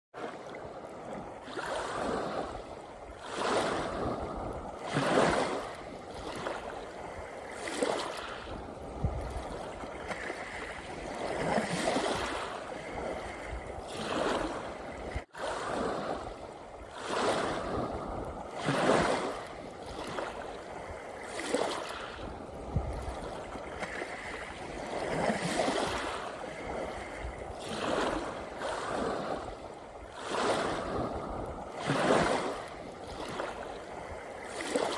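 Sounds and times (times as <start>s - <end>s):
sea waves breaking on beach: 0.2s - 34.9s.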